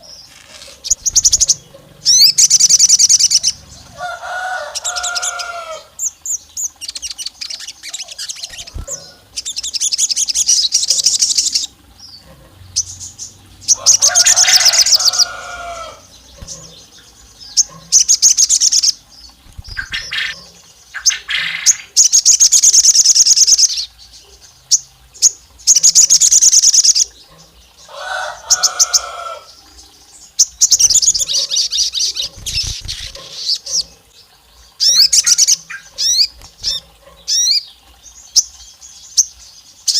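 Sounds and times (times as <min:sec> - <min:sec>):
bird high trilling song: 0:00.0 - 0:23.9, 0:24.7 - 0:27.2, 0:28.2 - 0:33.9, 0:34.8 - 0:39.9.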